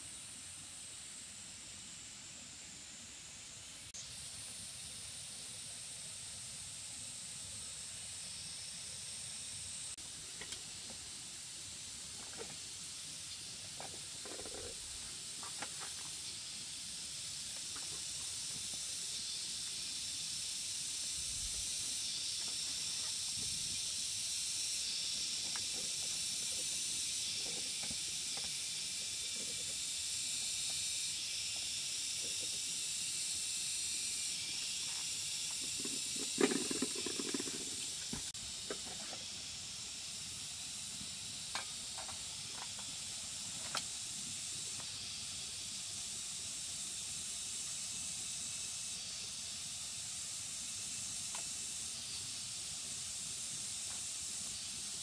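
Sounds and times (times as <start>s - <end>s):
steady high hiss: 0.0s - 55.0s.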